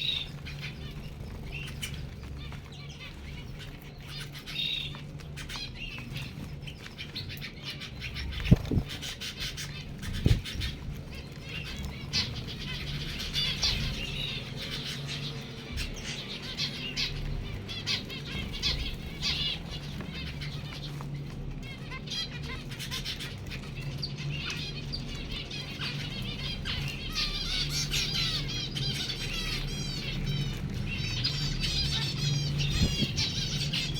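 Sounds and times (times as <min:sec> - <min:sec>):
steady low hum: 0:00.0 - 0:33.9
zebra finches calling: 0:00.0 - 0:33.9.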